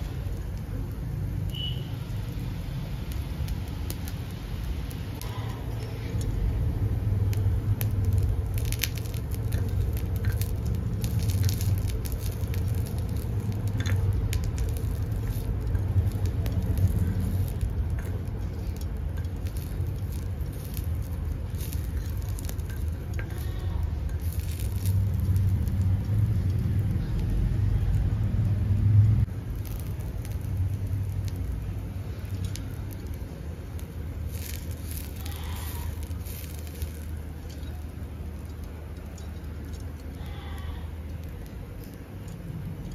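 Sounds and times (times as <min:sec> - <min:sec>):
fire crackling: 0:00.0 - 0:42.9
steady low rumble: 0:00.0 - 0:42.9.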